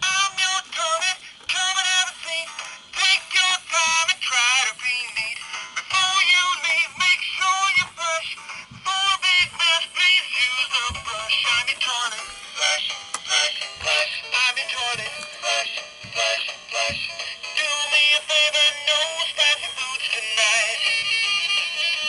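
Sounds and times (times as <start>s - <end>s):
music with synthetic singing voice: 0.0s - 22.0s.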